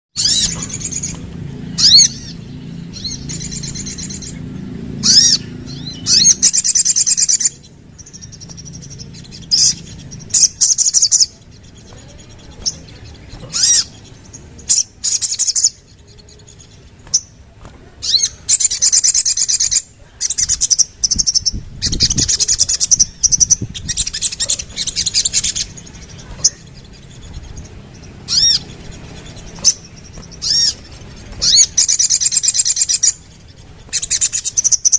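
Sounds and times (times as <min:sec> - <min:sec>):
bird high-pitched chattering: 0:00.2 - 0:34.9.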